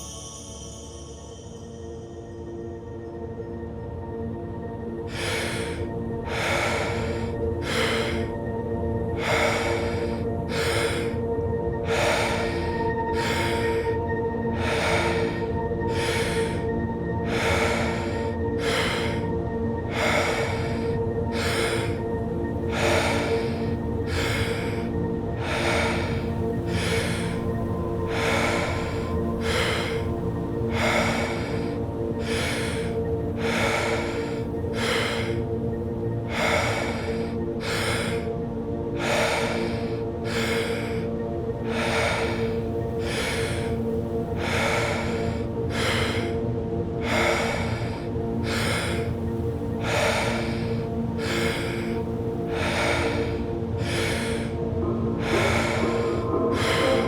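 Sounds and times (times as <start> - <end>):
ambient music drone: 0.0 - 57.0
deep rhythmic breathing: 0.0 - 57.0.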